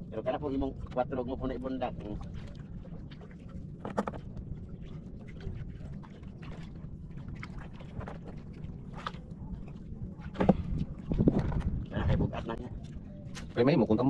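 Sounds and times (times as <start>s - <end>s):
low rumble of wind and water: 0.0s - 14.0s.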